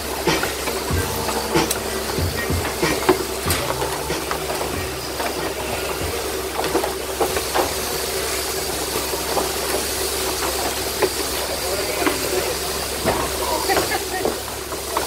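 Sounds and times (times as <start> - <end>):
shearing machinery whirring: 0.0 - 15.0.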